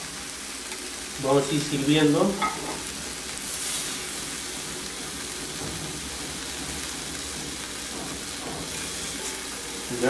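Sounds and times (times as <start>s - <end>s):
bacon sizzling on grill pan: 0.0s - 10.0s.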